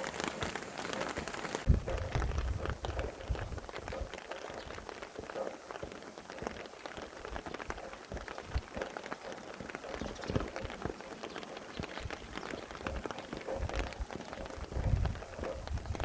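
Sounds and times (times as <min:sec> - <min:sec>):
rain drops ticking: 0:00.0 - 0:16.0
rain hiss: 0:00.0 - 0:16.0.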